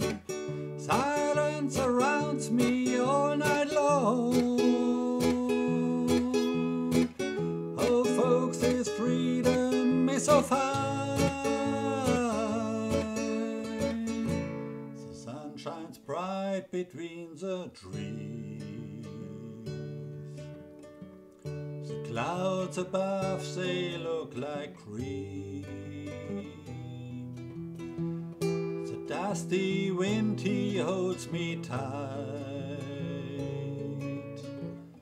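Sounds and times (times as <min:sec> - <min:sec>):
acoustic guitar picking: 0:00.0 - 0:16.8, 0:17.4 - 0:35.0
wordless vocal melody: 0:00.0 - 0:20.5, 0:21.9 - 0:27.6, 0:28.8 - 0:34.9.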